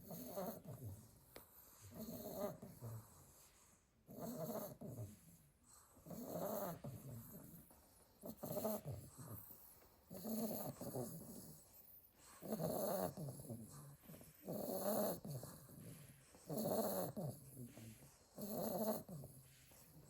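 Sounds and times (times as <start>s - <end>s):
puppy snoring: 0.0s - 20.0s.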